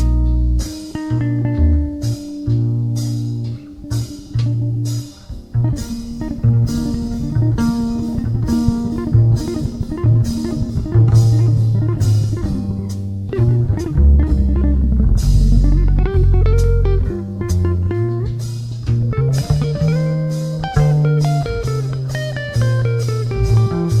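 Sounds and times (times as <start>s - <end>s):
bass guitar: 0.0s - 24.0s
drums: 0.0s - 24.0s
guitar: 0.0s - 24.0s.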